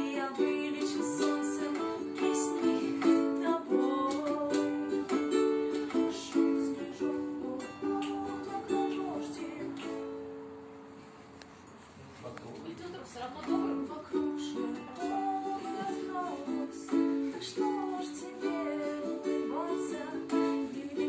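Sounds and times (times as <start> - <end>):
acoustic plucked string instrument: 0.0 - 11.5, 13.3 - 21.0.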